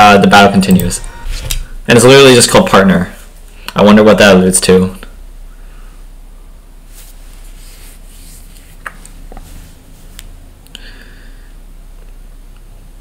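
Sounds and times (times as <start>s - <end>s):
low mains hum: 0.0s - 13.0s.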